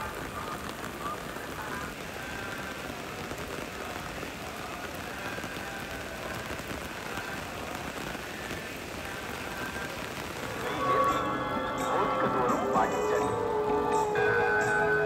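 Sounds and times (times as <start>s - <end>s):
heavy rain on wet paving: 0.0s - 15.0s.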